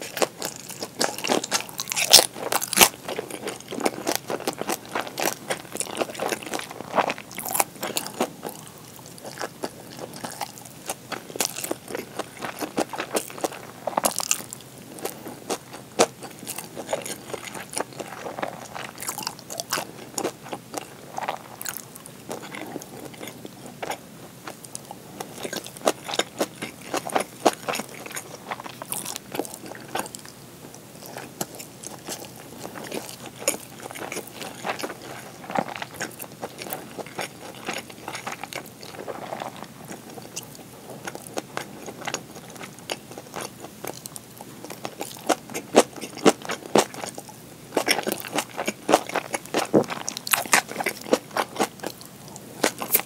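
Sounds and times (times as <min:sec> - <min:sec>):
close chewing: 0:00.0 - 0:53.0.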